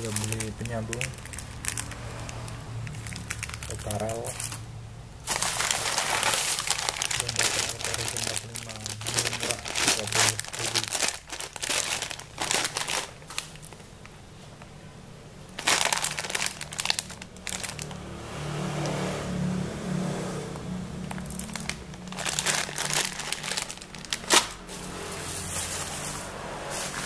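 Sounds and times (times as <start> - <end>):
plastic packaging crinkling: 0.0 - 14.2, 15.5 - 18.0, 21.0 - 27.0.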